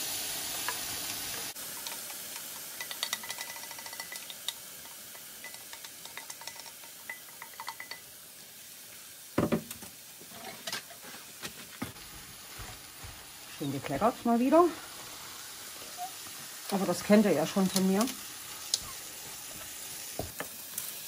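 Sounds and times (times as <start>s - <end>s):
mince sizzling in a pan: 0.0s - 21.0s.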